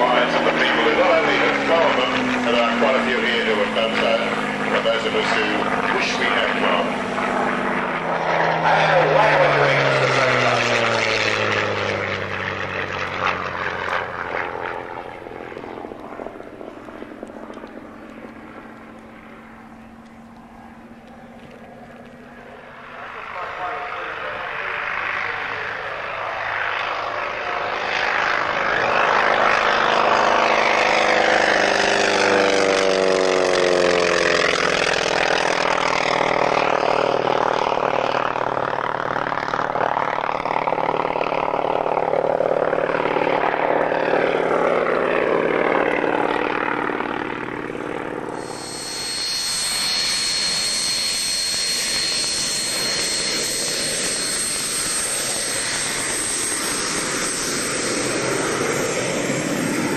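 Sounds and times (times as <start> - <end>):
high-pitched whine: 0.0 - 59.9
propeller plane engine passing: 0.0 - 59.9.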